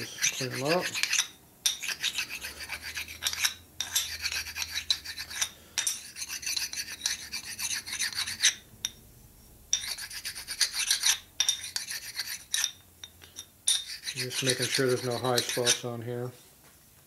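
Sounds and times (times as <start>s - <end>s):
stone scraping on metal: 0.0s - 15.9s.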